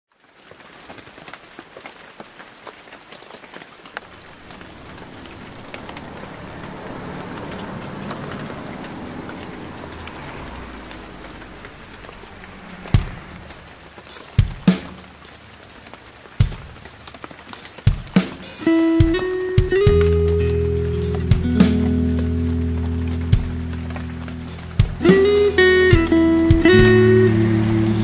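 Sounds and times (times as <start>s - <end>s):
rain on a wet street: 0.1s - 28.0s.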